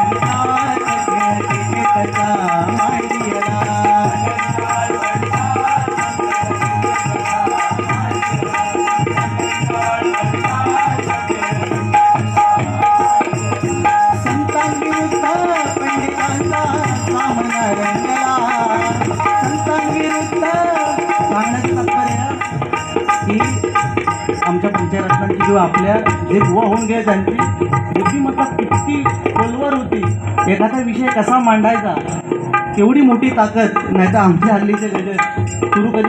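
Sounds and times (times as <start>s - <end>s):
hand drum rhythm: 0.0s - 36.0s.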